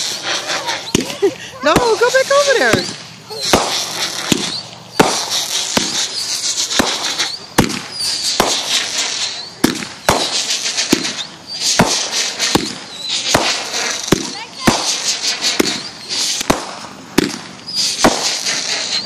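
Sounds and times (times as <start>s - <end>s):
fireworks banging: 0.0s - 19.0s
fireworks crackling fizz: 0.0s - 19.0s.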